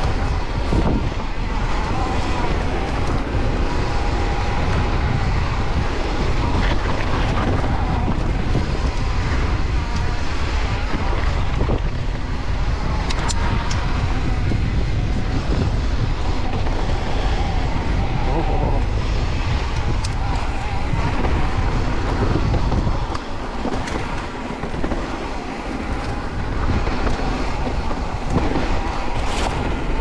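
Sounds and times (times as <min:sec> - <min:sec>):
bike tyres rumbling on dirt trail: 0:00.0 - 0:30.0
wind buffeting microphone: 0:00.0 - 0:30.0.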